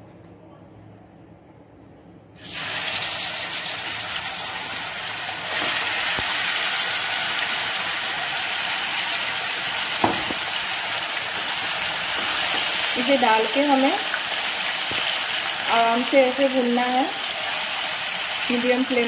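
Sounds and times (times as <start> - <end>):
chicken sizzling in hot oil: 2.4 - 19.0.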